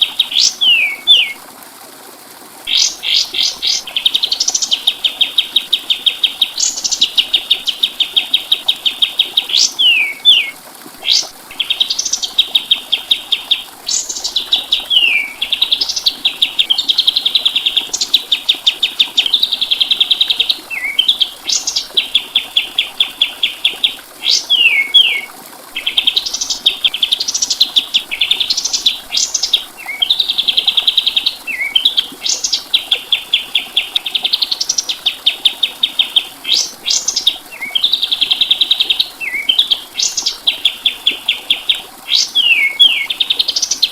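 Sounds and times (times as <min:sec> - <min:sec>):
songbird trilling: 0:00.0 - 0:01.4, 0:02.7 - 0:43.9.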